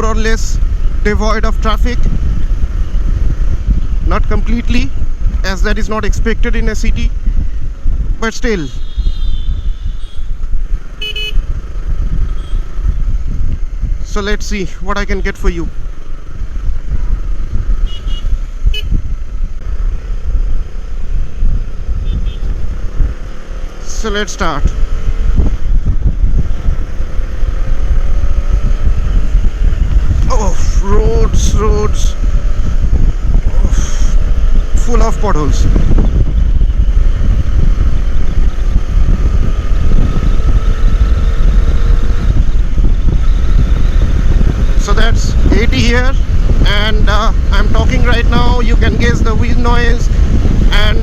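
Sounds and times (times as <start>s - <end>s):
road rumble: 0.0s - 51.0s
wind buffeting microphone: 0.0s - 51.0s.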